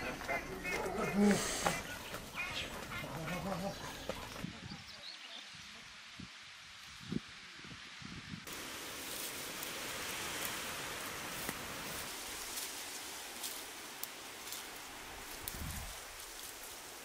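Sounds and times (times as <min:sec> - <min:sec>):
leaves and soil rustling: 0:00.0 - 0:17.0.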